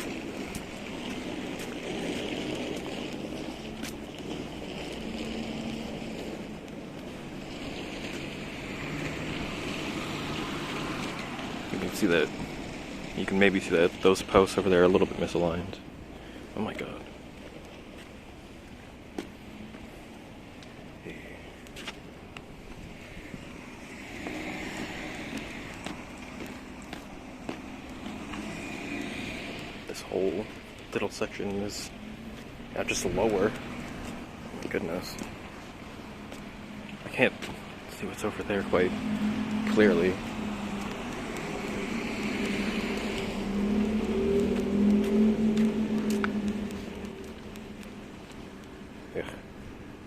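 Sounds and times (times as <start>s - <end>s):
footsteps crunching: 0.0s - 13.4s, 16.9s - 20.8s, 21.6s - 49.0s.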